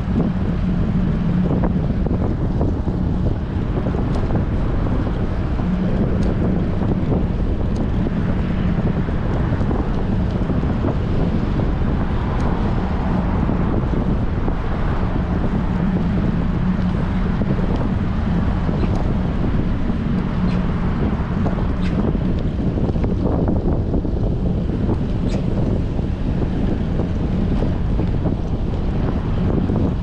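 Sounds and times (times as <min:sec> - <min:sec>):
faint steady drone: 0:00.0 - 0:30.0
wind buffeting microphone: 0:00.0 - 0:30.0.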